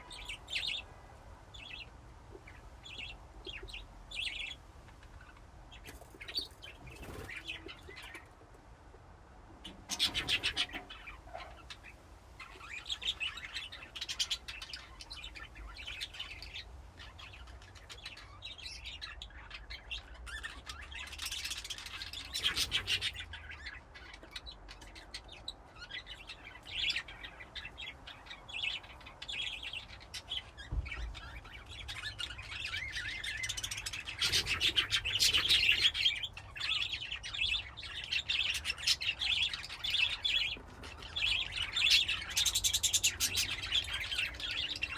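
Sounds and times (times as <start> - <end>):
budgerigars chirping: 0.0 - 0.9, 1.5 - 8.3, 9.6 - 44.9.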